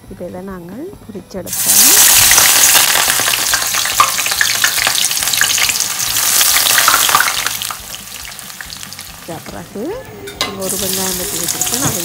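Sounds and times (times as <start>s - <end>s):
vegetables deep-frying in oil: 1.5s - 9.9s, 10.6s - 12.0s.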